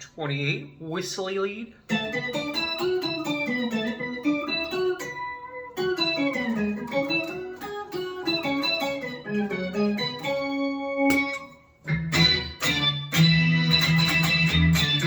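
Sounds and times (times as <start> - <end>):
synth guitar lead line: 1.9 - 15.0.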